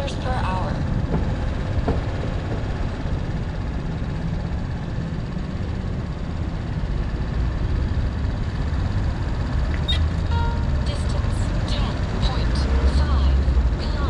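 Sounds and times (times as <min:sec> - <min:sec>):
motorbike engines idling: 0:00.0 - 0:14.0
street traffic noise: 0:00.0 - 0:14.0.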